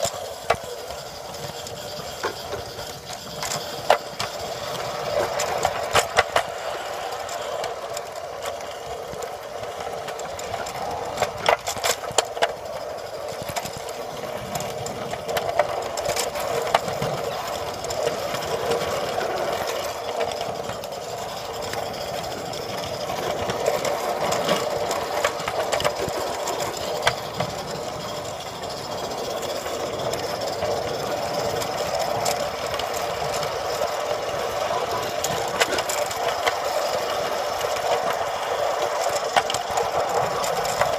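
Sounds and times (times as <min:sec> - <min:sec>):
rattling rumble of wheels on rail: 0:00.0 - 0:40.9
wheel clicks over rail joints: 0:00.0 - 0:40.9.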